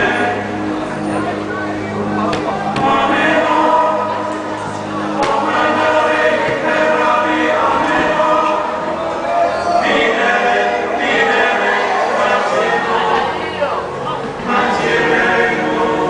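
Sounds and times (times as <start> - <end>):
choir singing: 0.0 - 0.7, 2.7 - 16.0
music: 0.0 - 16.0.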